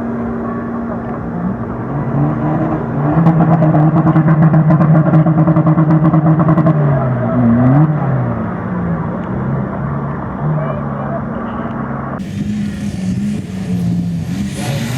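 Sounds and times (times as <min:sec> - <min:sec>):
diesel engine revving: 0:00.0 - 0:14.9.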